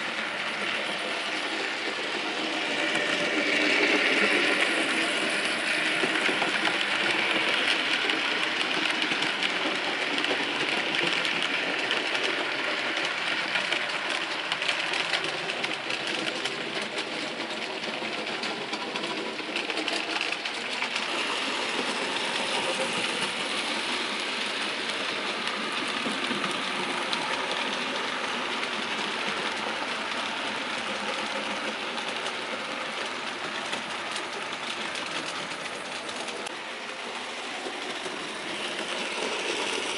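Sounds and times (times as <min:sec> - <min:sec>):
model train motor whirr: 0:00.0 - 0:39.9
wheels clicking on track: 0:00.0 - 0:39.9.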